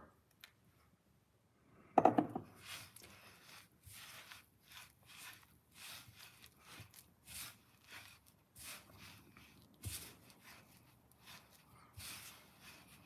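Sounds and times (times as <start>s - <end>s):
dough squishing by hand: 2.4s - 13.0s.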